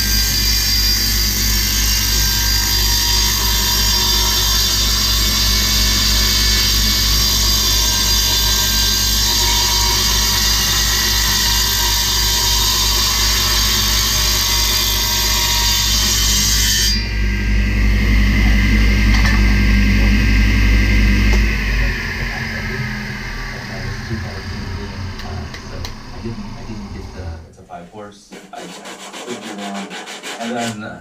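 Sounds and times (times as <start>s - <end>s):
power tool humming: 0.0s - 27.4s.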